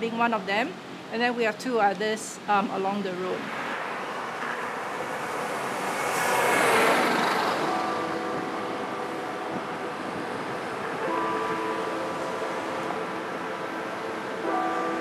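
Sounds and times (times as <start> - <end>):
steady street hum: 0.0 - 15.0
car passing: 2.4 - 15.0.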